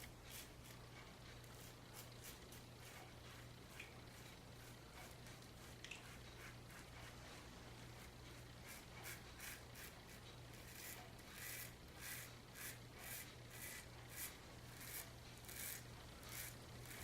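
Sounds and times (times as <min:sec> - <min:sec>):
razor scraping stubble: 0:00.0 - 0:17.0.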